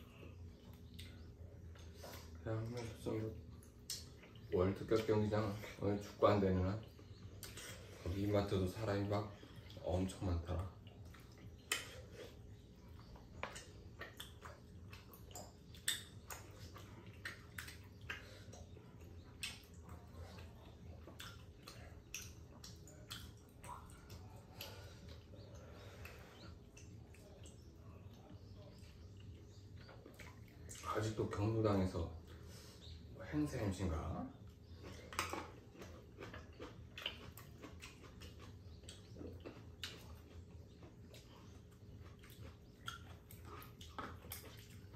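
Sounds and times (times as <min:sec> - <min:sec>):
chewing mouth smacks: 0:00.0 - 0:05.2, 0:06.8 - 0:08.1, 0:10.6 - 0:30.9, 0:34.4 - 0:44.9.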